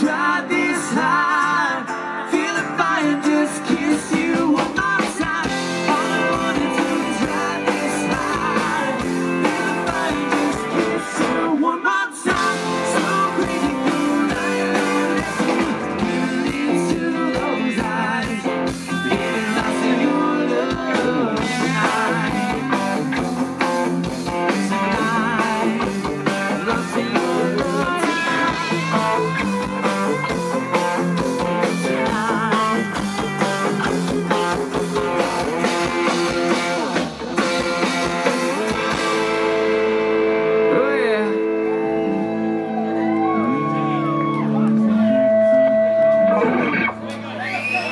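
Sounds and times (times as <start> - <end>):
country rock band playing: 0.0 - 47.9.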